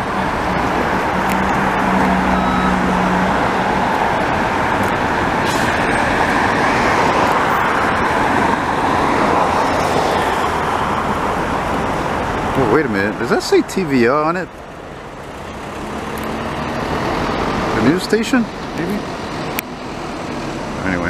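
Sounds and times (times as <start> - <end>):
highway traffic: 0.0 - 21.0.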